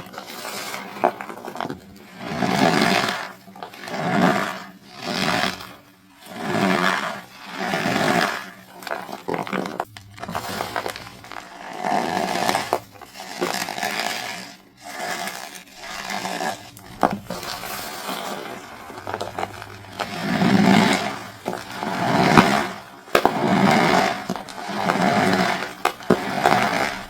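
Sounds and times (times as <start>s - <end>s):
cornstarch crunching by hand: 0.0s - 27.0s.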